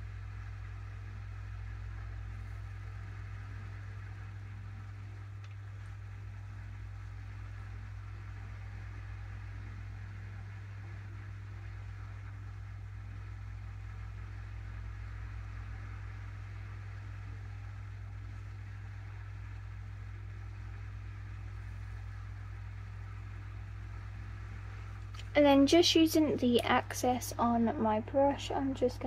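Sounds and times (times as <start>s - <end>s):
faint hiss: 0.0s - 29.0s
low hum: 0.0s - 29.0s.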